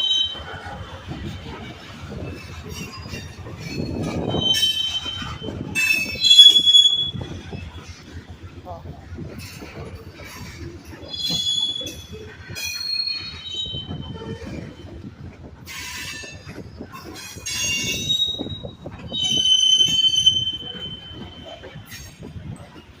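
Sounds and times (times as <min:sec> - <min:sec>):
train wheels squealing: 0:00.0 - 0:08.2, 0:09.4 - 0:22.8
train wheels rumbling: 0:00.0 - 0:23.0.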